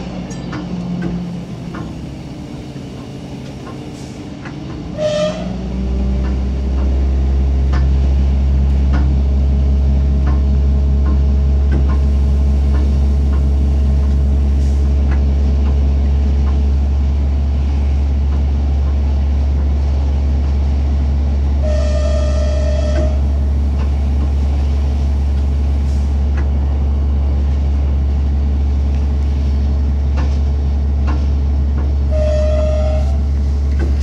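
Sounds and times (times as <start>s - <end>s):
vehicle rumble and drone: 0.0s - 34.0s.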